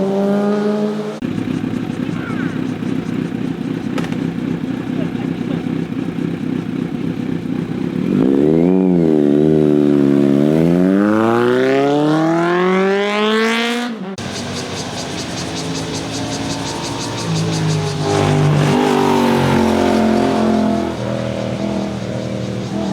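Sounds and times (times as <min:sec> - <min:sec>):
motorcycle engine accelerating: 0:00.0 - 0:22.9
steady engine sound: 0:00.1 - 0:22.9.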